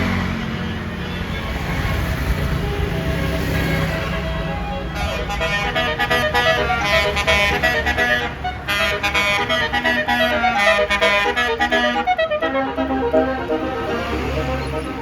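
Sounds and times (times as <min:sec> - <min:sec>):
bus engine running: 0:00.0 - 0:15.0
bus melody air horn: 0:00.0 - 0:15.0.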